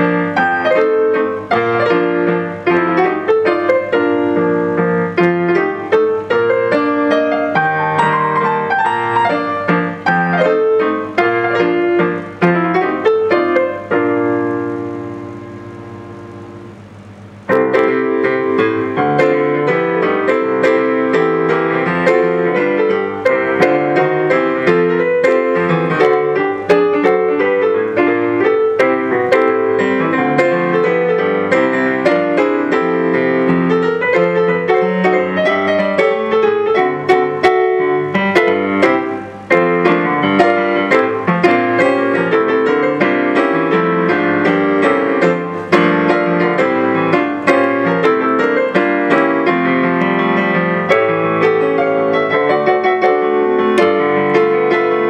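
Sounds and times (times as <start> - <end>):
solo piano music: 0.0 - 55.0.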